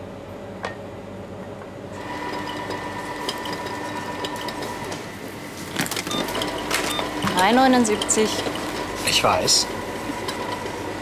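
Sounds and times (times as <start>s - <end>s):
conveyor belt motor whine: 0.0s - 11.0s
low store hum: 0.0s - 11.0s.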